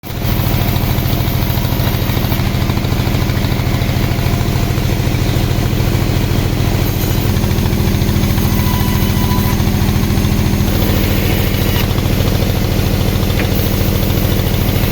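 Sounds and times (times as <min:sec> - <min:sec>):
engine-driven saw pulsing: 0:00.0 - 0:14.9.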